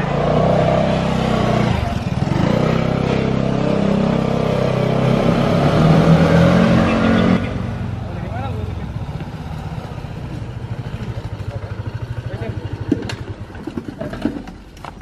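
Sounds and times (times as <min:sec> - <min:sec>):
motor scooter engine pulling away: 0:00.0 - 0:15.0.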